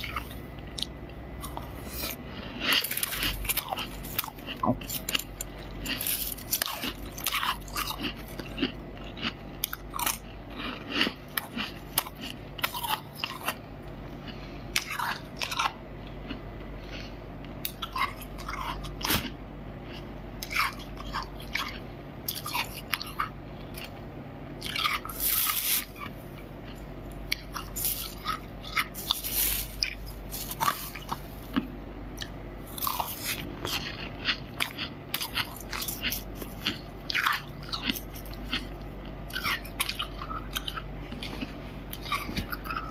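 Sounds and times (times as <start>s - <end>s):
person chewing crunchy frost: 0.0s - 42.9s.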